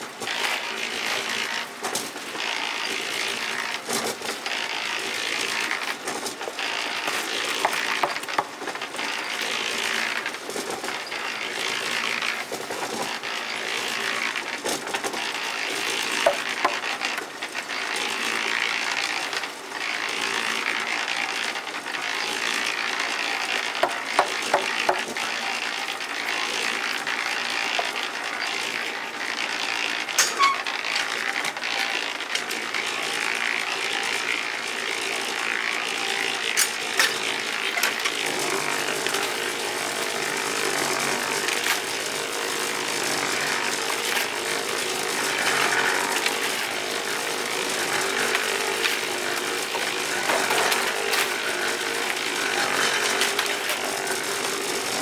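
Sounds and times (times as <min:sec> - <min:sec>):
scraping and rasping: 0:00.2 - 0:17.3, 0:22.8 - 0:33.2, 0:36.0 - 0:55.0.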